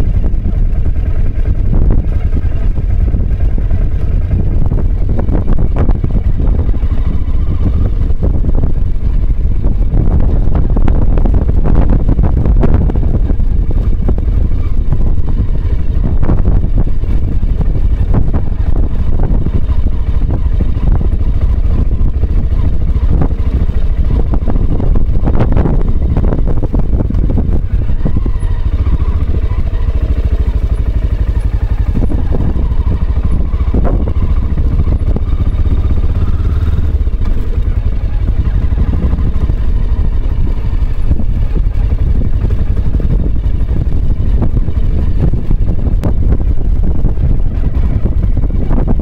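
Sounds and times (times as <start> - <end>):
motorcycle engine running: 0.0 - 49.0
wind buffeting microphone: 0.0 - 49.0.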